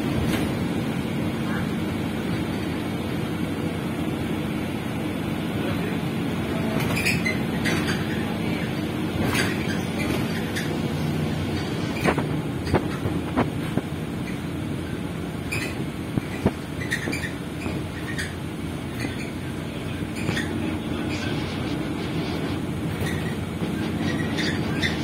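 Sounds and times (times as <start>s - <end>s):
vehicle running rumble: 0.0s - 25.0s.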